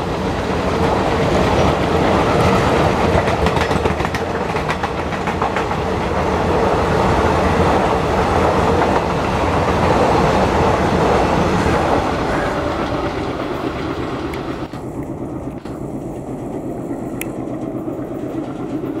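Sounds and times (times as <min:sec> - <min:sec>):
train wheels clattering over rail joints: 0:00.3 - 0:06.2, 0:08.2 - 0:19.0.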